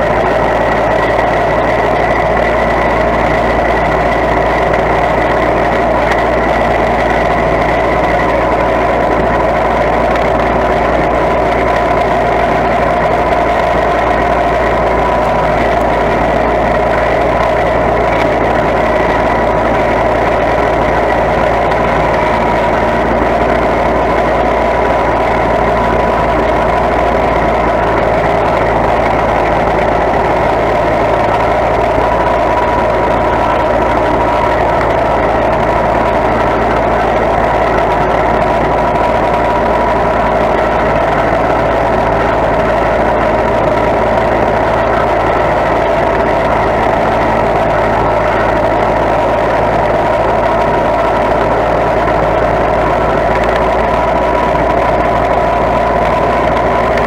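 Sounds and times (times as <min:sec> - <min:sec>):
riding tractor engine running: 0:00.0 - 0:57.0.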